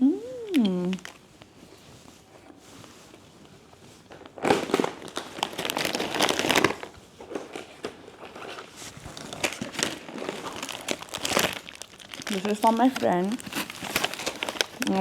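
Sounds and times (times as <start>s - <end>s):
snack packaging crinkling: 0.8s - 1.5s, 2.4s - 15.0s.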